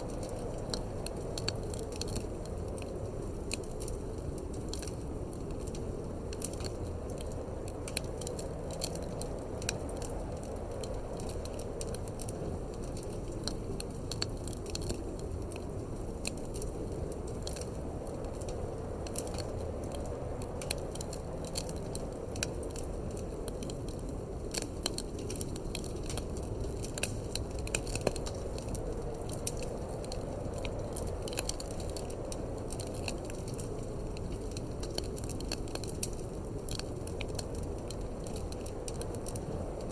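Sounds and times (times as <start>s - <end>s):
low rumble of wind: 0.0s - 39.9s
wood fire crackling and popping: 0.0s - 39.9s.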